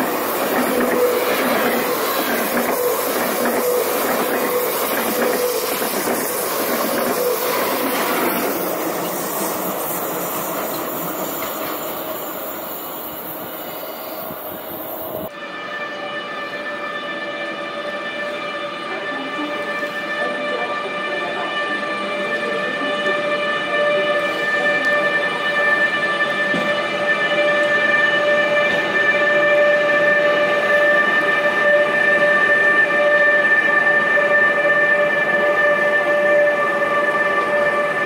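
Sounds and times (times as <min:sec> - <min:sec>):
train running on track: 0:00.0 - 0:38.0.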